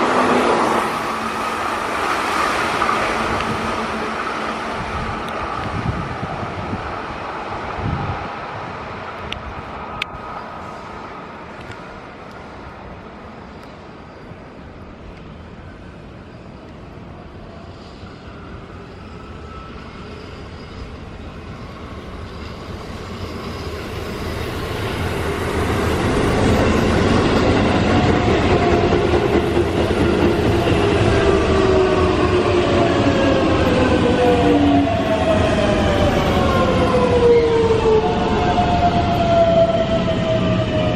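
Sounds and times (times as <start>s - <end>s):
electric train rumbling: 0.0s - 40.9s.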